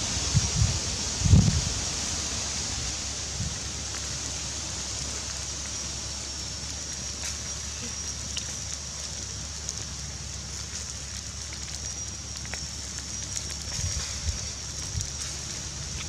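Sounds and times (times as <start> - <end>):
cooking fire crackling: 0.0 - 16.0.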